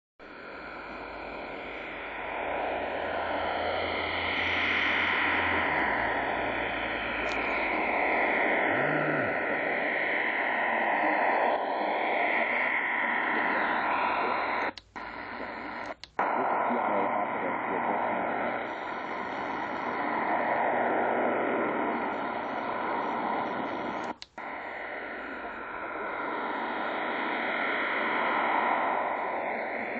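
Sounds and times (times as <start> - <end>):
low hum: 0.2 - 29.9
shortwave radio noise: 0.2 - 29.9.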